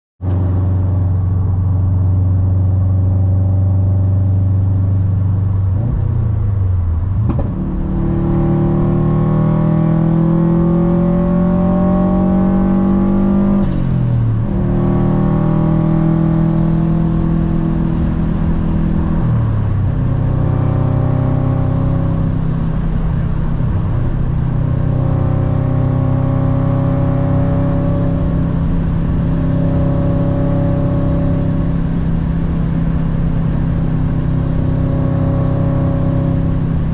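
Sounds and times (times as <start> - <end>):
car engine accelerating: 0.2 - 36.9.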